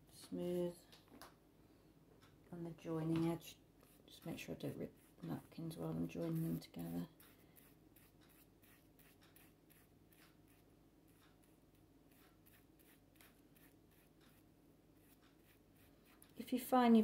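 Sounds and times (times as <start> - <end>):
soft brushing strokes: 2.9 - 16.8.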